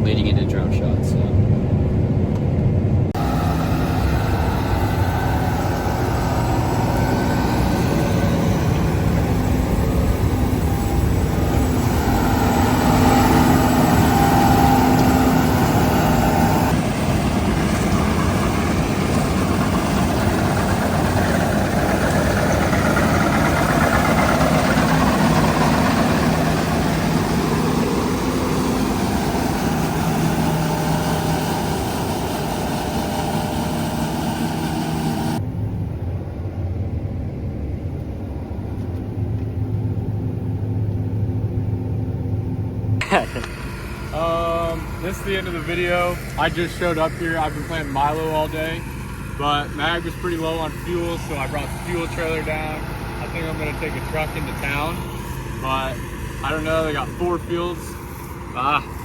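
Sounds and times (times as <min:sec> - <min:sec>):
farm machinery engine running: 0:00.0 - 0:59.0.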